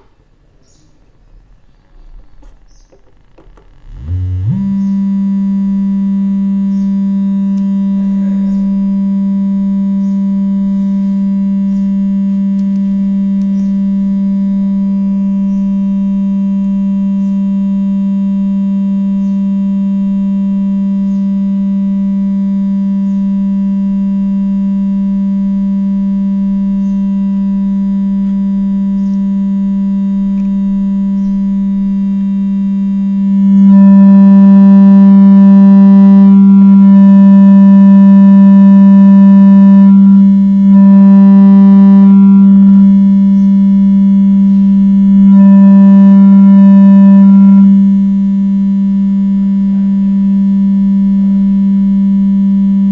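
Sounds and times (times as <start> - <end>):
steady test tone from loudspeaker: 0.0 - 52.9.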